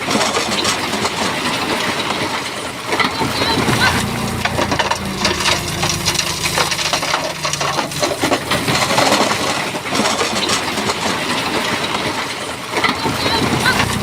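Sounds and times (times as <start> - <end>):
bulldozer engine running: 0.0 - 14.0
rocks clattering and grinding: 0.0 - 14.0.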